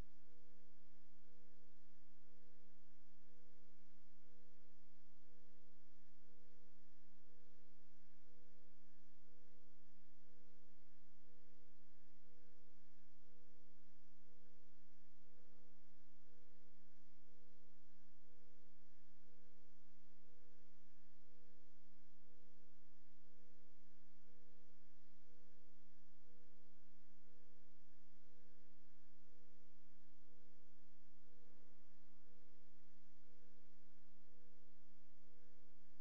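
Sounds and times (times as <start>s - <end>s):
low hum of held tones: 0.0s - 36.0s.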